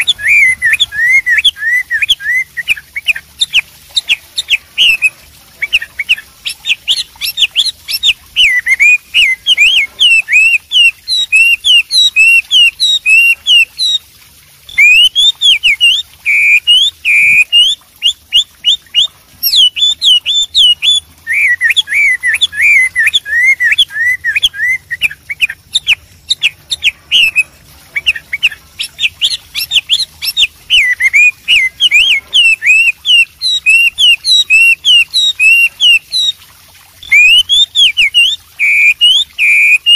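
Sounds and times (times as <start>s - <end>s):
bird singing whistled notes: 0.0s - 14.0s, 14.7s - 36.4s, 37.0s - 39.9s.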